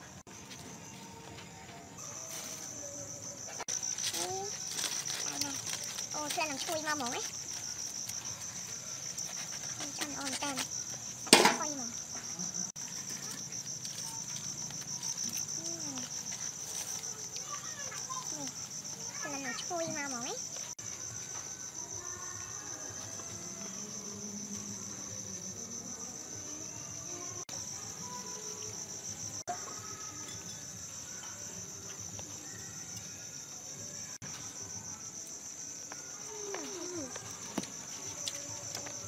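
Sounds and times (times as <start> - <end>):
night insects chirping: 0.0 - 39.0.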